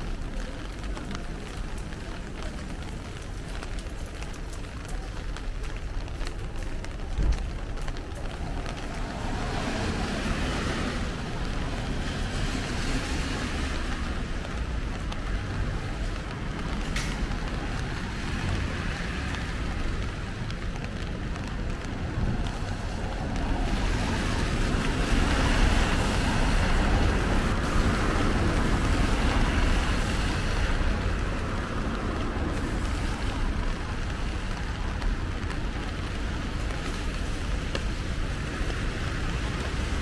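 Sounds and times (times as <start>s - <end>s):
steady rain: 0.0s - 40.0s
vehicle passing on wet road: 0.0s - 40.0s.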